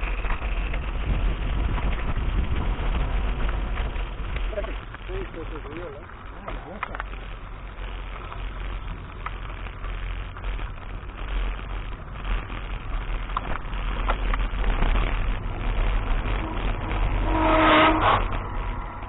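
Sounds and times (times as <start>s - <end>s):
bike clicks and rattles: 0.0s - 11.2s, 11.8s - 16.1s
tyre and trail noise: 0.0s - 19.0s
wind rumble on microphone: 0.0s - 19.0s.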